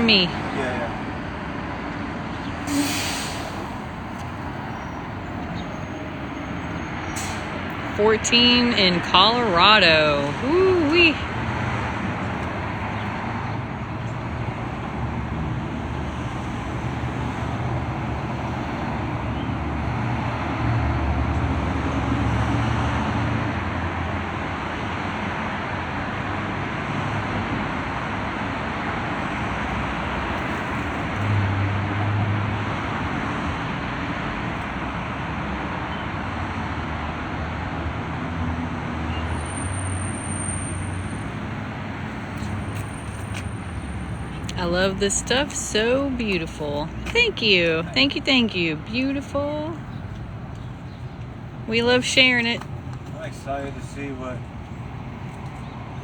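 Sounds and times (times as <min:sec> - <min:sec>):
heavy vehicle rumble: 0:00.0 - 0:56.0
road traffic passing: 0:00.0 - 0:56.0.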